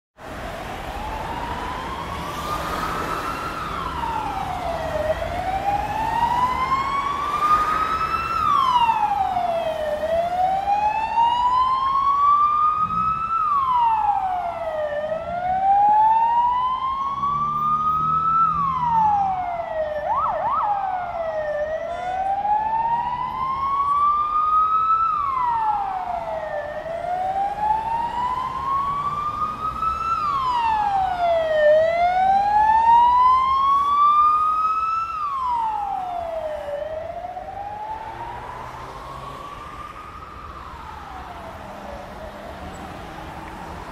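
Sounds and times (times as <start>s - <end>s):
city traffic hum: 0.2s - 43.9s
emergency vehicle siren wailing: 0.2s - 43.9s.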